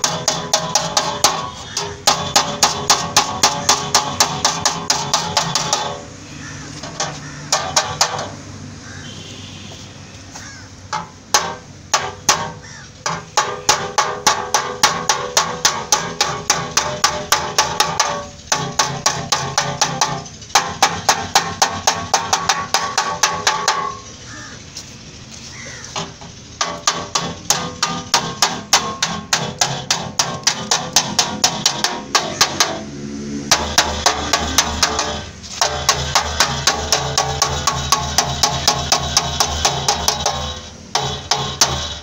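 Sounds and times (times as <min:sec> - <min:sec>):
hammer tapping on steel: 0:00.0 - 0:06.1, 0:06.8 - 0:08.4, 0:10.9 - 0:24.0, 0:26.0 - 0:32.9, 0:33.5 - 0:42.0.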